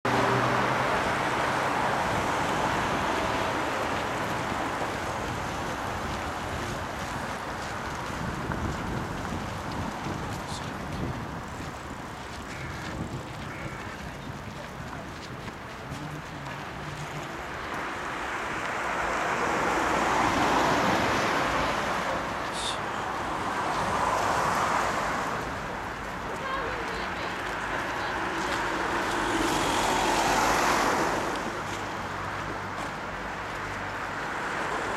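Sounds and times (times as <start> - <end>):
steady city traffic: 0.0 - 34.9
car passing close by: 0.1 - 11.0, 16.1 - 26.2, 27.4 - 34.9.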